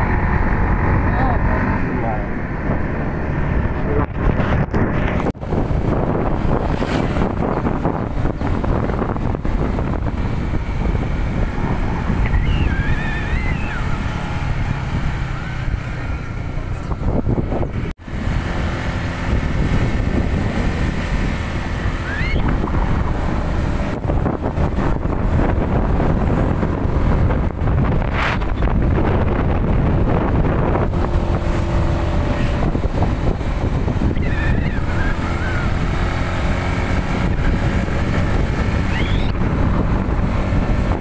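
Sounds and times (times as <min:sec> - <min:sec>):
road noise: 0:00.0 - 0:41.0
wind buffeting microphone: 0:00.0 - 0:41.0.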